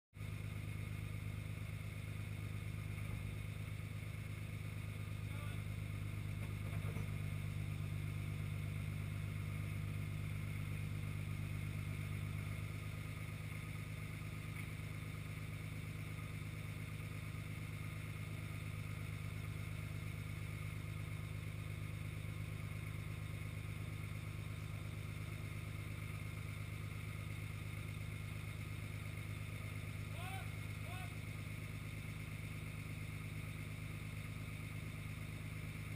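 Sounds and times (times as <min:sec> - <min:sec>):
truck engine humming: 0:00.2 - 0:35.9.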